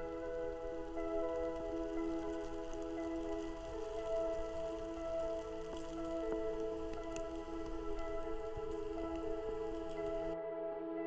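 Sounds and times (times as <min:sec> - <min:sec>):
faint ticks: 0:00.0 - 0:10.4
soft background music: 0:00.0 - 0:11.0.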